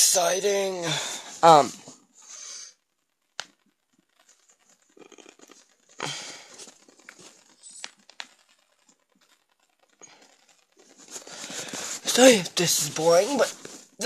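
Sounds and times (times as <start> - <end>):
rustling and crinkling: 1.0 - 14.0.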